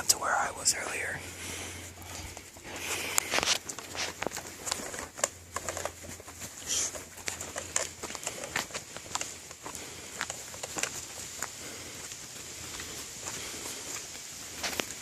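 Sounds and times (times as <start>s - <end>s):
light crackling and sharp clicks: 2.0s - 15.0s.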